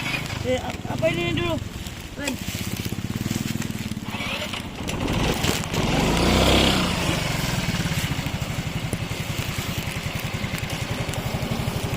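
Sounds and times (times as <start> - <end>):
engine running with low throb: 0.0 - 11.9.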